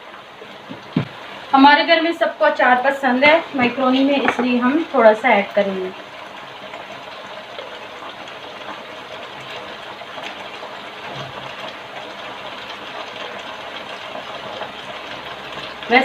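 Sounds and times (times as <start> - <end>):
pasta sizzling in a pot: 0.0 - 16.0.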